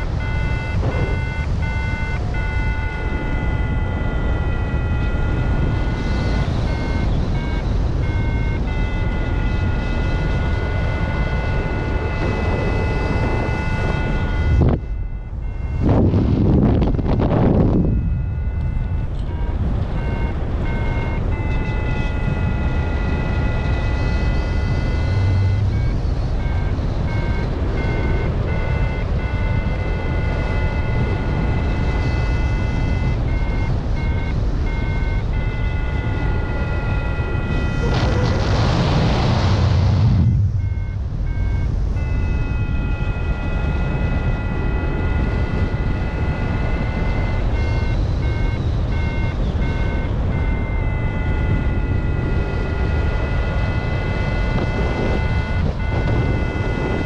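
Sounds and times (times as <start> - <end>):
variometer electronic beeps: 0.0 - 38.2, 40.1 - 57.0
wind rushing over microphone: 0.0 - 57.0.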